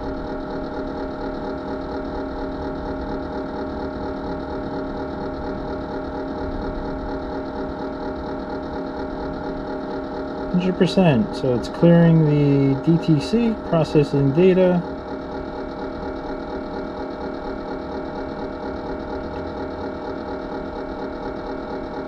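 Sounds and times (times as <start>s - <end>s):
whirring machine hum: 0.0s - 22.0s.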